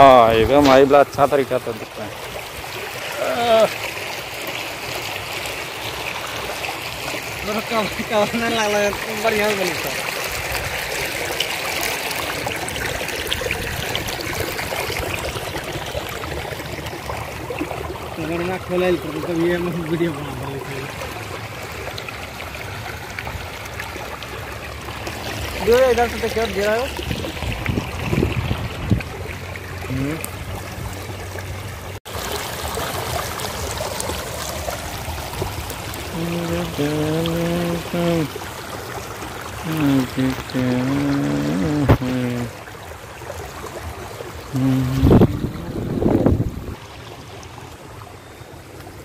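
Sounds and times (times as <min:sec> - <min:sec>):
small splashes: 0:00.0 - 0:49.0
water rushing over rocks: 0:00.0 - 0:49.0.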